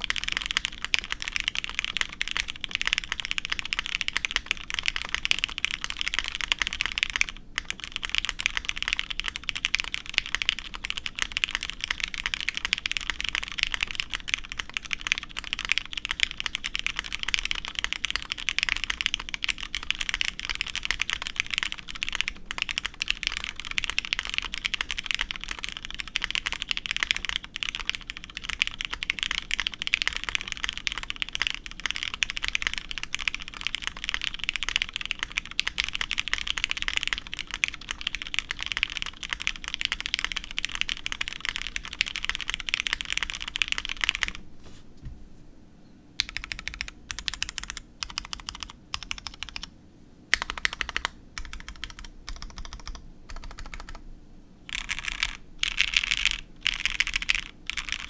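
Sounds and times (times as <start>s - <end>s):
typing on mechanical keyboard: 0.0s - 44.4s, 46.2s - 49.7s, 50.3s - 54.0s, 54.7s - 58.0s.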